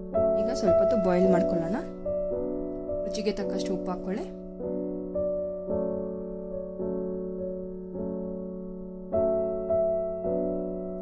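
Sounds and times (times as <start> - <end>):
keyboard chords: 0.0 - 11.0.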